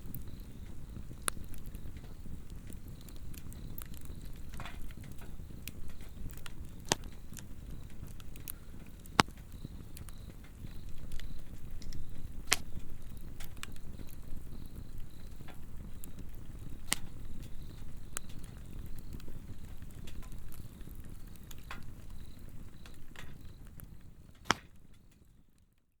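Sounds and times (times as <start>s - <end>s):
insects trilling: 0.0s - 24.3s
log fire crackling: 0.0s - 26.0s.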